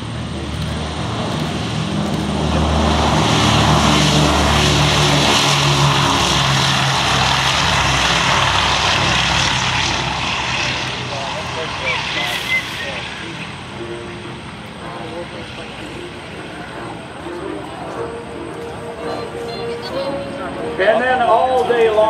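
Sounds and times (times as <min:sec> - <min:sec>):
propeller plane flying past: 0:00.0 - 0:22.0.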